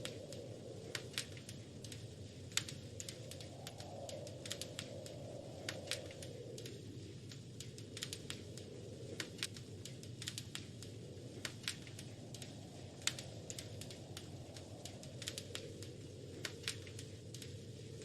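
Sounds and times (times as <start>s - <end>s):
low rumble of burning fire: 0.0s - 18.0s
wood fire crackling and popping: 0.0s - 18.0s.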